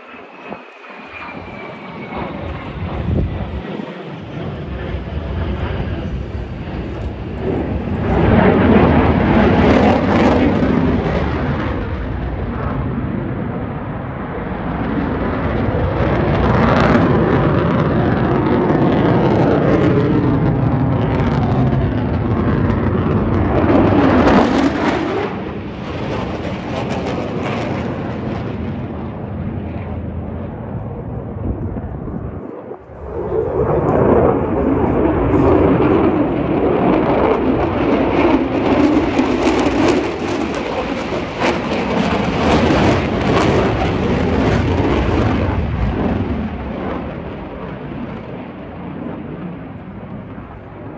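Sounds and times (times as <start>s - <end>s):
loud jet engine roar: 0.0s - 50.9s.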